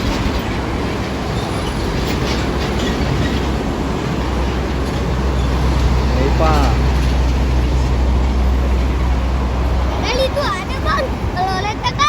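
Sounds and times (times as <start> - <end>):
heavy road traffic: 0.0 - 12.0
heavy vehicle engine rumble: 0.0 - 12.0.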